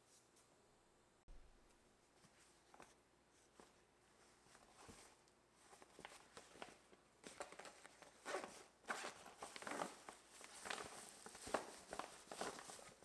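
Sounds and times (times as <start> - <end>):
fabric rustling: 2.0 - 13.0.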